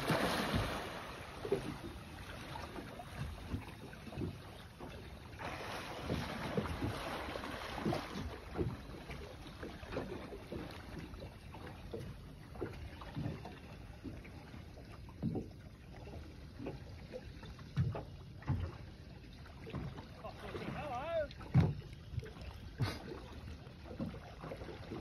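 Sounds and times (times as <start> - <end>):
waves slapping against boat hull: 0.0 - 25.0.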